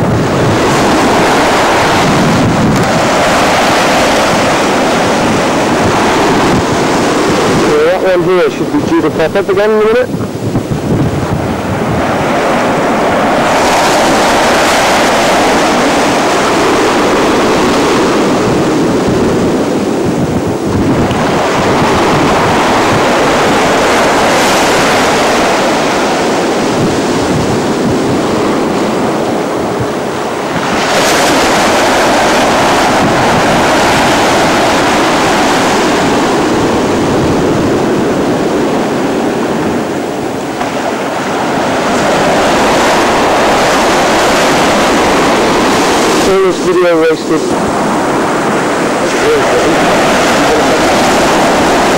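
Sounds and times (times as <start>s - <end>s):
surf breaking on beach: 0.0s - 51.9s.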